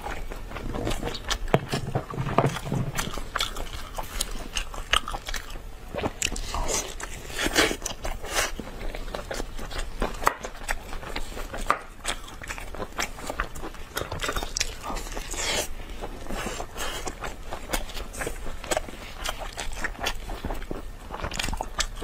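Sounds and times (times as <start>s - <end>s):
person chewing with wet smacks: 0.0s - 22.0s.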